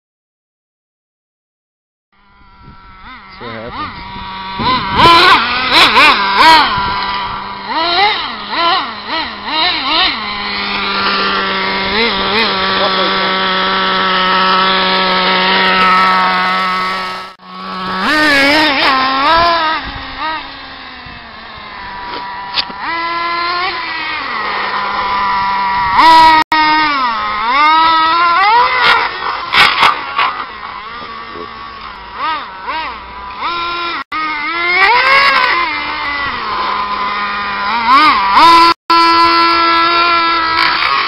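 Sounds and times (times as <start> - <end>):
toy truck motor whining: 2.2 - 41.0.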